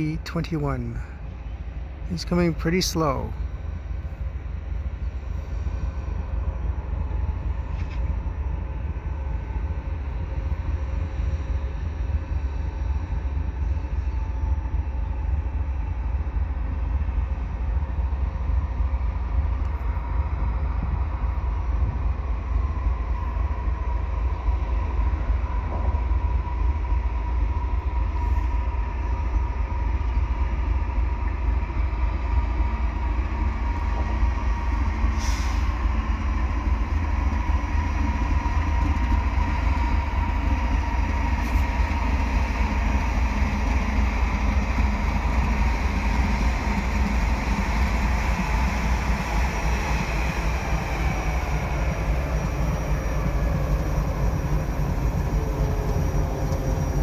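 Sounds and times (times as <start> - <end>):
locomotive engine rumble: 0.0 - 57.0.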